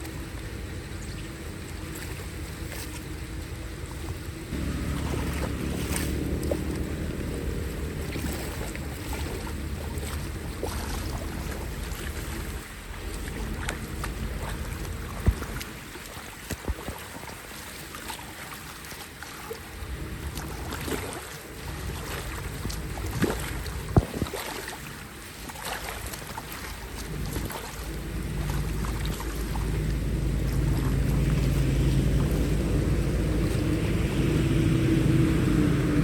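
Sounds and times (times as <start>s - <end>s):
floodwater flowing at drain: 0.0s - 36.0s
sharp water splashes: 4.5s - 36.0s.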